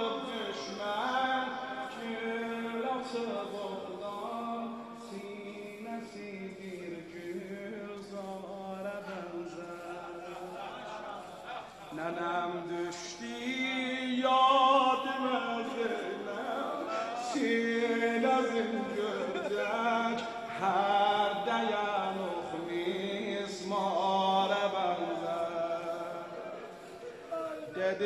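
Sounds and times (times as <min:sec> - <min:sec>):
man chanting a lament: 0:00.0 - 0:28.0.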